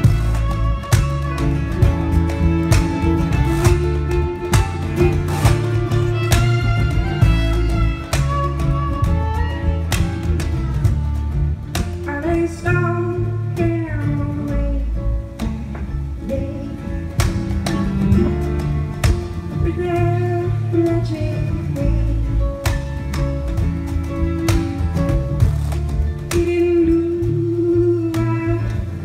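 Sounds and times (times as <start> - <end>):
acoustic guitar: 0.0 - 29.0
electric upright bass: 0.0 - 29.0
sliding melodic notes: 0.0 - 29.0
washboard and drum percussion: 0.0 - 29.0.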